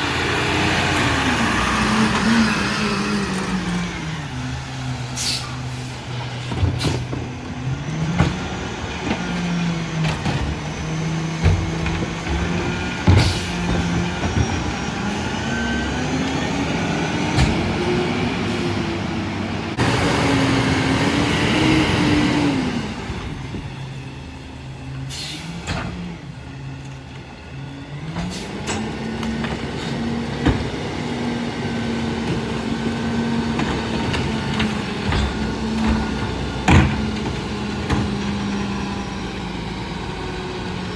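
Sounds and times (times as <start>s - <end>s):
garbage truck diesel engine revving: 0.0s - 40.9s.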